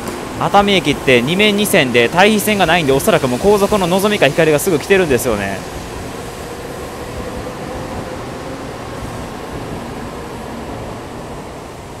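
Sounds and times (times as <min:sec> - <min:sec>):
train cars rolling by: 0:00.0 - 0:12.0.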